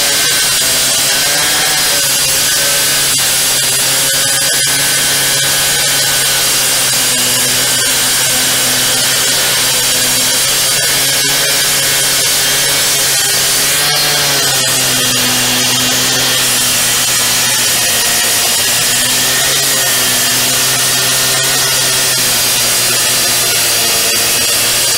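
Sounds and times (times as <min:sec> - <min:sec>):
cut-off saw cutting concrete: 0:00.0 - 0:24.9.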